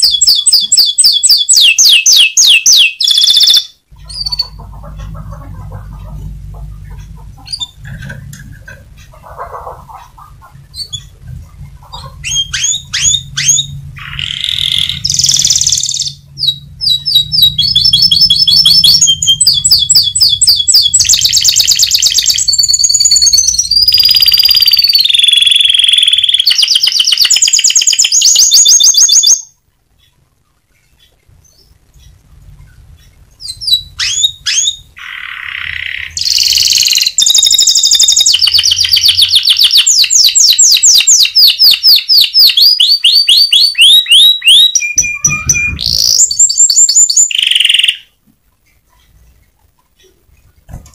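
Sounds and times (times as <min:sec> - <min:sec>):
canary singing trills: 0:00.0 - 0:50.6.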